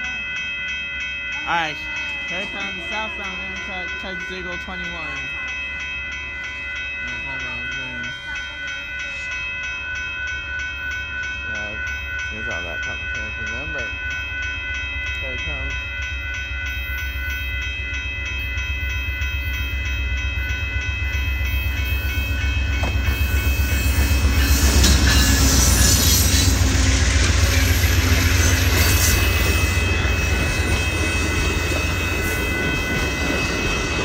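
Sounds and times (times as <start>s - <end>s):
crossing warning bell ringing: 0.0s - 34.0s
passenger train rumbling past: 1.3s - 5.8s, 6.4s - 34.0s.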